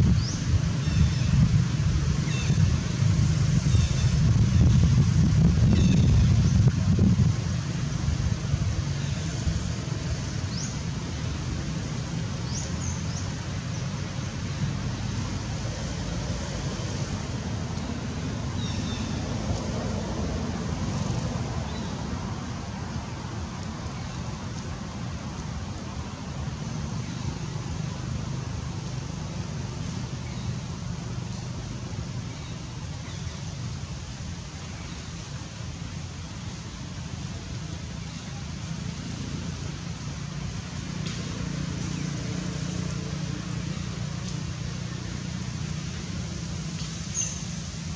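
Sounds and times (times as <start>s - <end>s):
low outdoor rumble and hiss: 0.0s - 47.9s.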